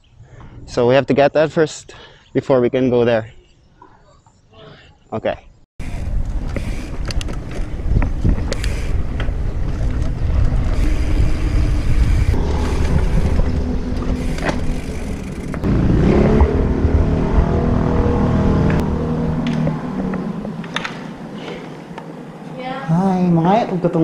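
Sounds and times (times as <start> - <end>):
constant low traffic rumble: 0.0 - 24.0.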